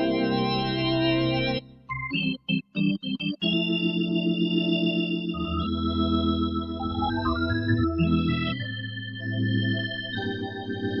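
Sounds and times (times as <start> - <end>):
keyboard organ chords: 0.0 - 11.0
rising run of organ notes: 0.0 - 11.0.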